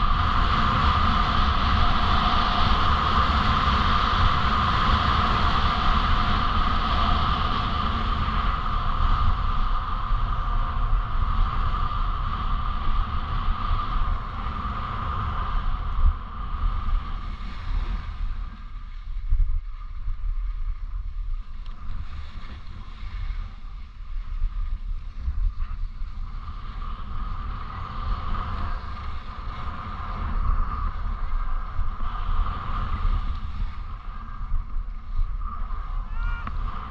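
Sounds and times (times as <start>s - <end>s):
wind rushing over microphone: 0.0s - 36.9s.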